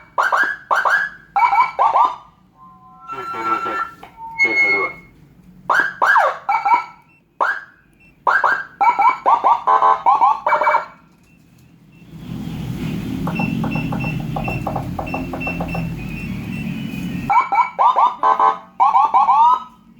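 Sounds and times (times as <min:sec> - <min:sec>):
quick rising siren chirps: 0:00.2 - 0:10.9, 0:11.9 - 0:18.1.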